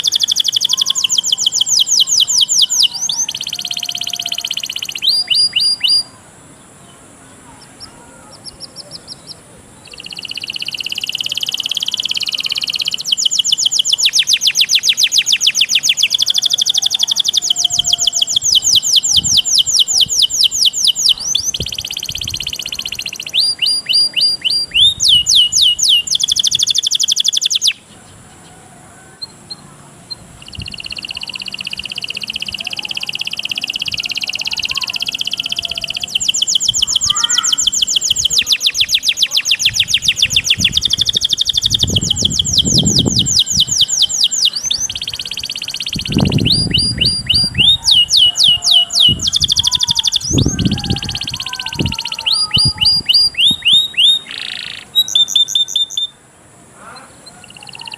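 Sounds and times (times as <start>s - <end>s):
buzzy bird phrase: 0.0s - 57.9s
songbird trills: 0.0s - 57.9s.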